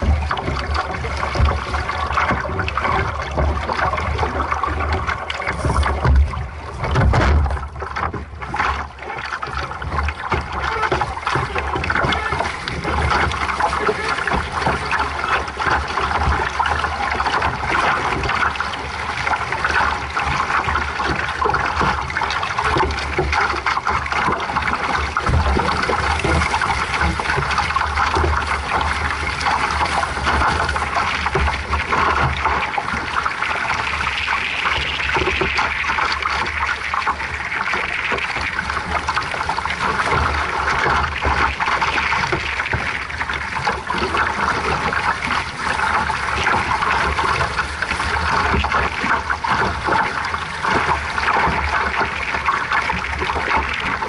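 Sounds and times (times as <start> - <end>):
water rushing along boat hull: 0.0 - 54.0
wind rumble on microphone: 0.0 - 54.0.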